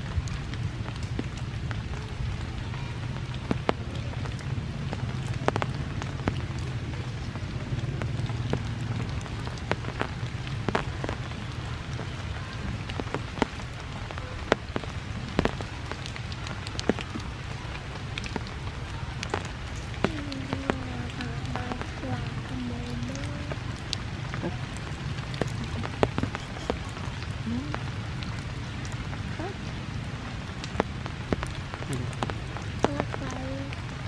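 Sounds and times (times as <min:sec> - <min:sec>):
rain on foliage: 0:00.0 - 0:34.0
sharp drips and taps: 0:00.0 - 0:34.0.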